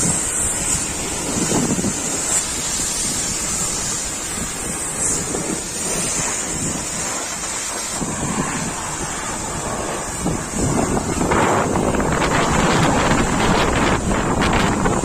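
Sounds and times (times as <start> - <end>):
high-pressure water jet spraying: 0.0 - 15.0.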